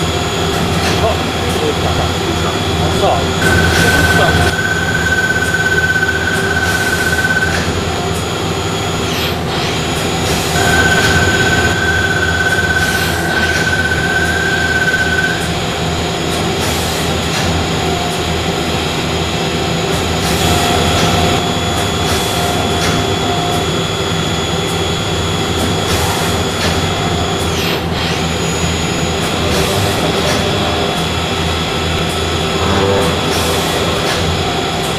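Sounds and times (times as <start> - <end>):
high machine whine: 0.0 - 34.9
machining centre running: 0.0 - 34.9.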